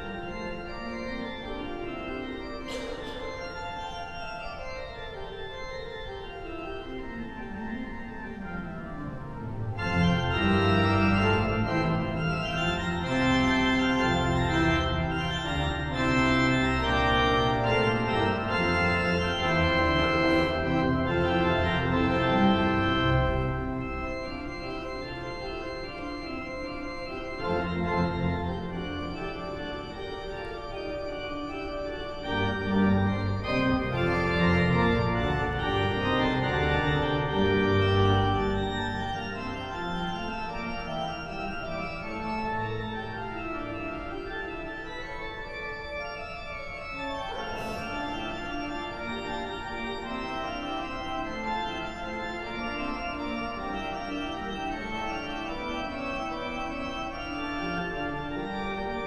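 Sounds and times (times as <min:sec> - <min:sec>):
pipe organ playing dense chords: 0:00.0 - 0:59.0
deep organ pedal bass: 0:09.6 - 0:59.0.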